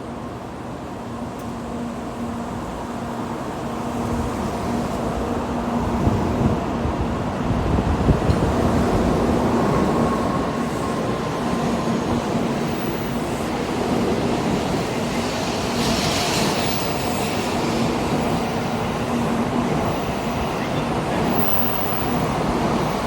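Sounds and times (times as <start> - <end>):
train rumbling: 1.1 - 23.0.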